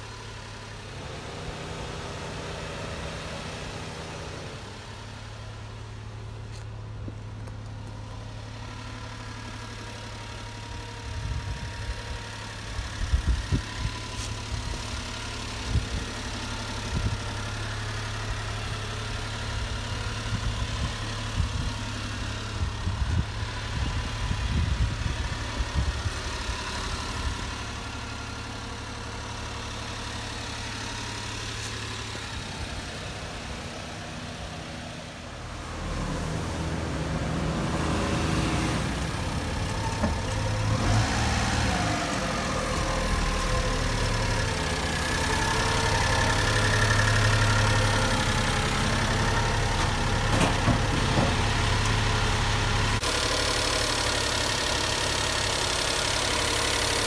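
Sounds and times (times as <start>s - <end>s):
small engine idling: 0.0s - 37.9s, 38.9s - 57.0s.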